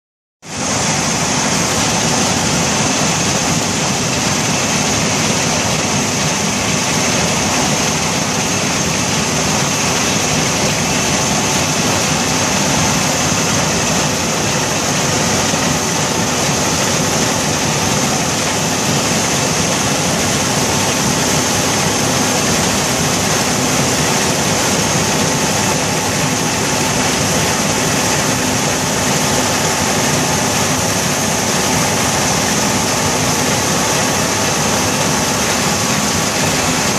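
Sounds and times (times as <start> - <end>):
combine harvester mechanical din: 0.5 - 36.9.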